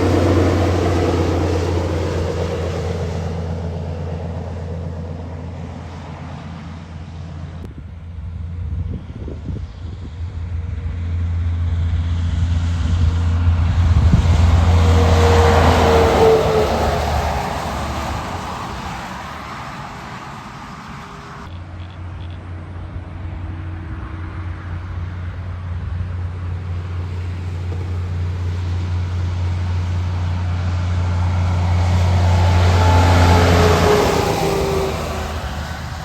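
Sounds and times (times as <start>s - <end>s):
heavy trucks passing: 0.0s - 8.8s, 10.1s - 36.0s.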